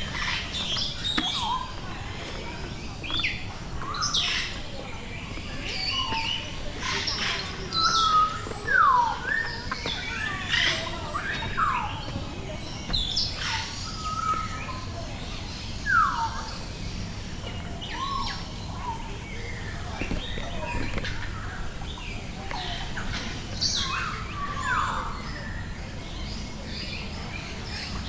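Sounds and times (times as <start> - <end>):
birds whistling calls: 0.0 - 14.8, 17.8 - 27.9
birds chirping: 0.0 - 28.0.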